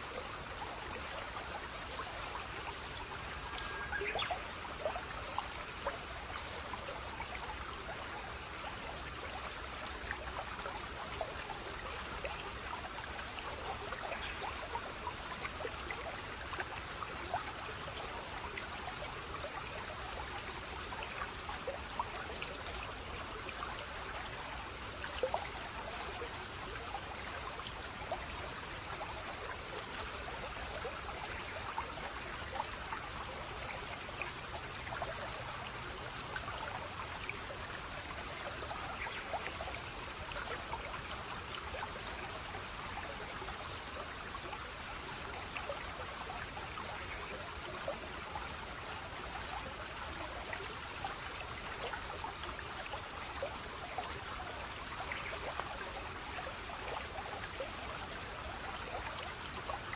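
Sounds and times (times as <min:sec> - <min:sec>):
stream trickling and splashing: 0:00.0 - 0:59.9.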